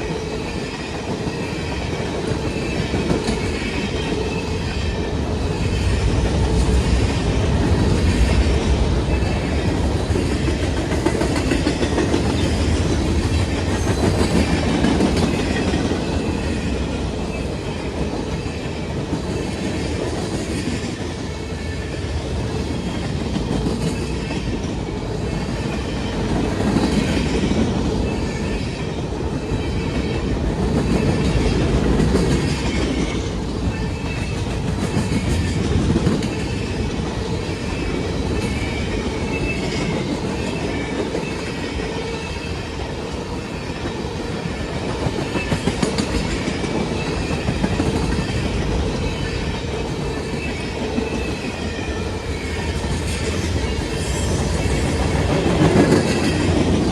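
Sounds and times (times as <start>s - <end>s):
railroad cars rumbling on rails: 0.0s - 56.9s.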